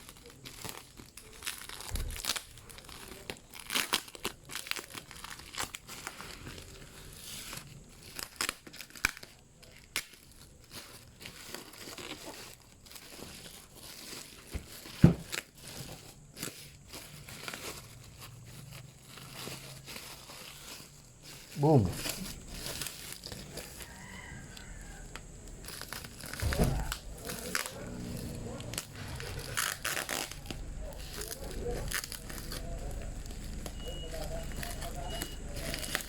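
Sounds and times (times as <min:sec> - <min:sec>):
packaging crinkling and rustling: 0:00.0 - 0:36.0.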